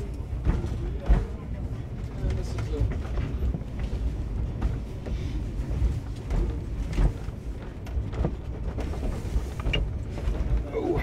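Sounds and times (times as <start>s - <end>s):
train car rolling on rails: 0.0s - 11.0s.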